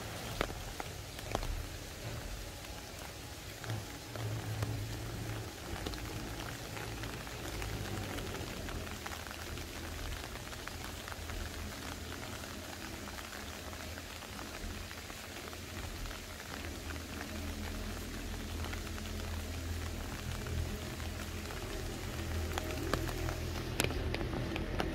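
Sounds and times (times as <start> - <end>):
steady rain pattering: 0.0 - 24.9.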